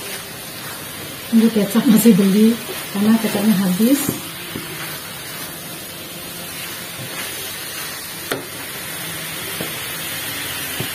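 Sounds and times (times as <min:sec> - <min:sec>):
meat sizzling in a wok: 0:00.0 - 0:10.9.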